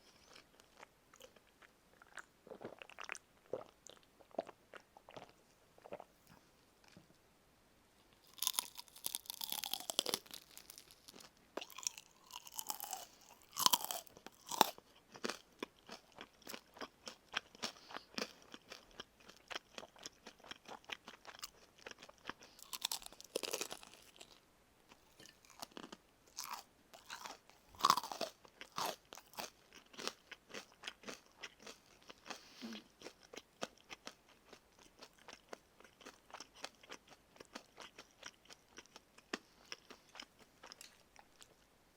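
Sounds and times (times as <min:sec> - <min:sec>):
crunching and chewing fried chicken: 0:00.0 - 0:06.1, 0:08.2 - 0:41.6.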